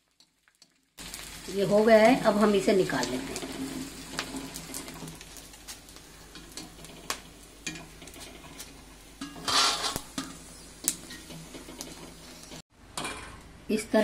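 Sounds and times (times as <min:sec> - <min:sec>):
faint frying sizzle: 0:00.0 - 0:14.0.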